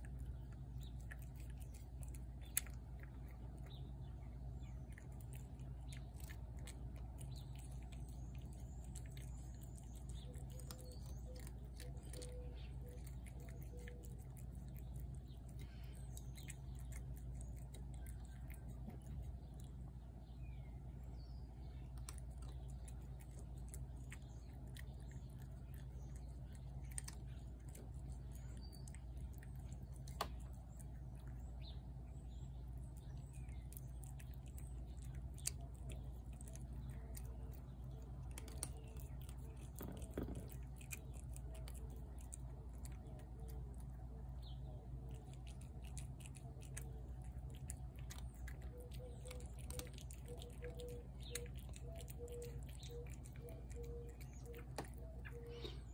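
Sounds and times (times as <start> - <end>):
cat chewing wet food: 0.0 - 55.9
bird chirps: 0.1 - 43.8, 48.1 - 55.9.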